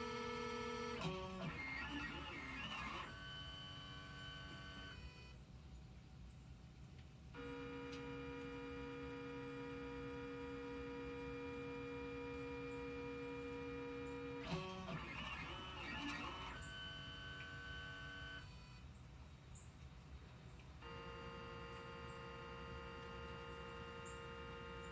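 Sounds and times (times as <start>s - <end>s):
stepper motors whining: 0.3s - 5.0s, 7.4s - 18.9s, 20.8s - 24.9s.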